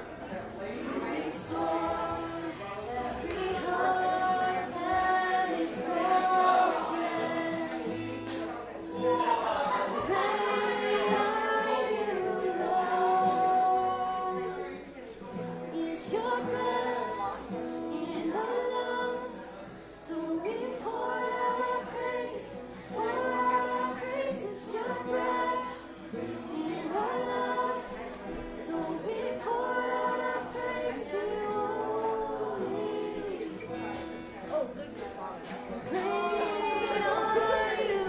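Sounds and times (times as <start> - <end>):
acoustic guitar playing: 0.0 - 38.0
women singing: 0.7 - 38.0.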